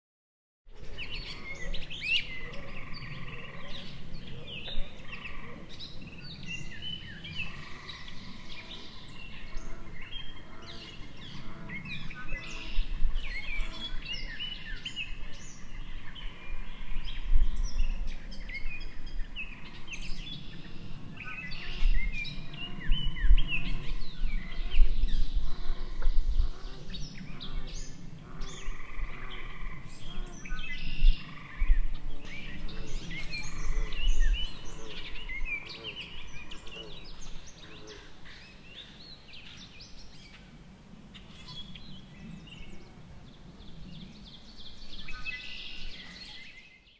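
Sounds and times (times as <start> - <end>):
birds calling and chirping: 0.8 - 46.9.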